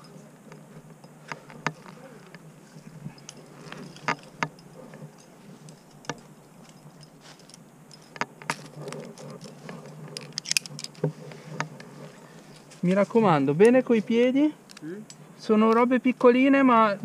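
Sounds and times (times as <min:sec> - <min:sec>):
metal climbing gear clinking: 0:00.0 - 0:13.8.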